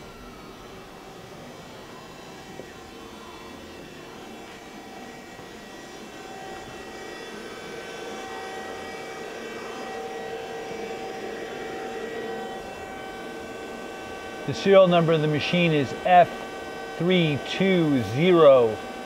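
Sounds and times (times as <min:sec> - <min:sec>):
machine whirring hum: 0:00.0 - 0:19.0
steady machine tones: 0:00.0 - 0:19.0.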